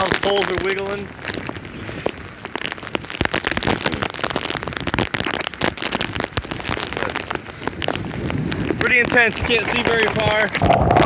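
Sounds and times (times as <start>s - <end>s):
rain pelting the camera: 0.0s - 11.0s
wind: 0.0s - 11.0s.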